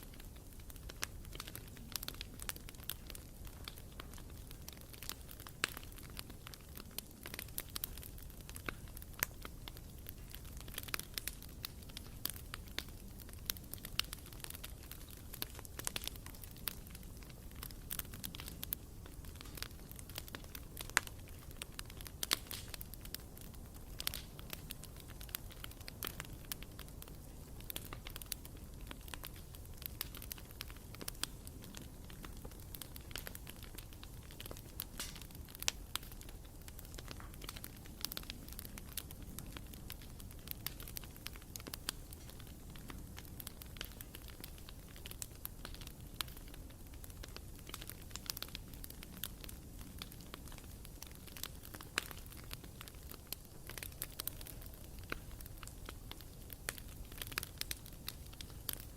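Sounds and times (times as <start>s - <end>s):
low fire rumble: 0.0s - 58.9s
wood crackling and popping: 0.0s - 58.9s.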